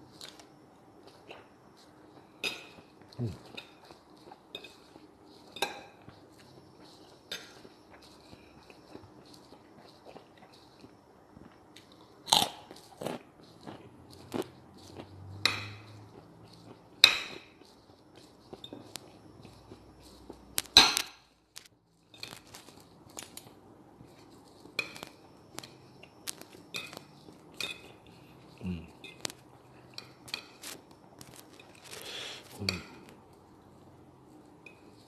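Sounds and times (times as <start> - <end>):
crunchy food chewing: 0.0 - 35.0.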